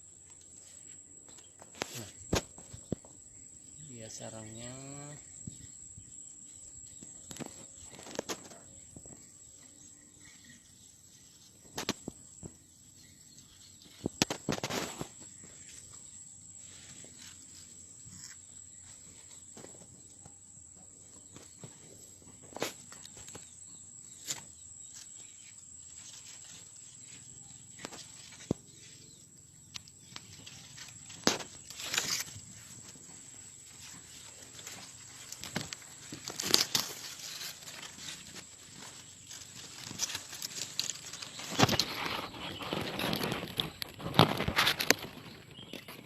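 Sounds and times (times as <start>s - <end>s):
crickets droning: 0.0s - 46.0s.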